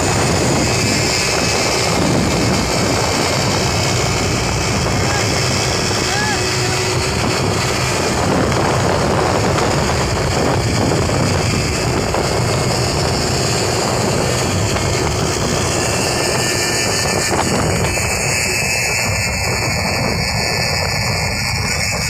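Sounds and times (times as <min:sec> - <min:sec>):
motorcycle engines running: 0:00.0 - 0:22.0
road and wind noise: 0:00.0 - 0:22.0.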